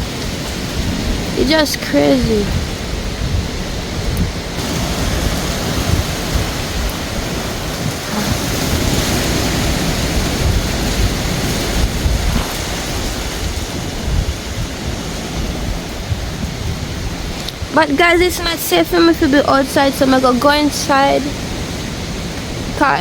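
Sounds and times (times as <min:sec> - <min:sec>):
wind and heavy rain rushing: 0:00.0 - 0:23.0
wind buffeting microphone: 0:00.0 - 0:23.0.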